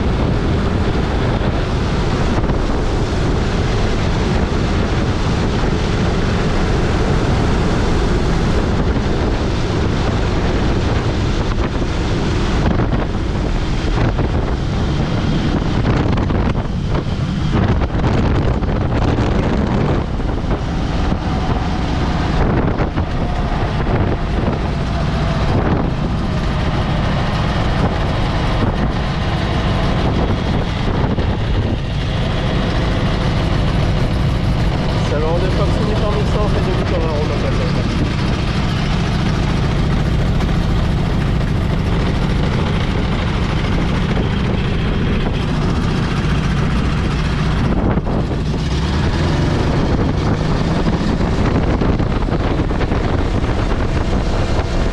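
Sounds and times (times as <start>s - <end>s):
aircraft engine and propeller: 0.0s - 54.9s
wind buffeting microphone: 0.0s - 54.9s.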